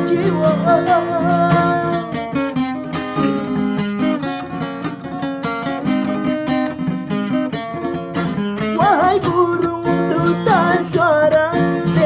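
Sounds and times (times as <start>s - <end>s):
acoustic guitar plucking and strumming: 0.0s - 12.0s.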